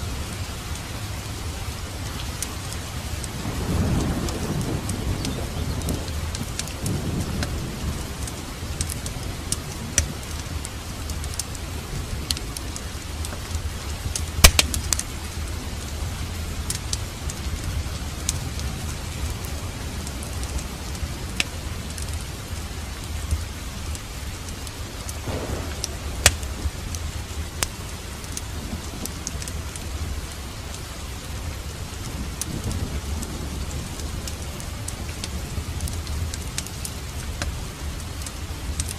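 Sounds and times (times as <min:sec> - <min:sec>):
steady rain: 0:00.0 - 0:38.9
wood fire crackling and popping: 0:02.1 - 0:15.9, 0:16.6 - 0:30.9, 0:31.5 - 0:38.9.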